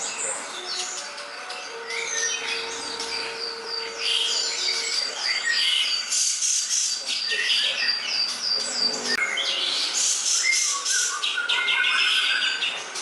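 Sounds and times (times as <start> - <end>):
bird singing high chirps: 0.0 - 13.0.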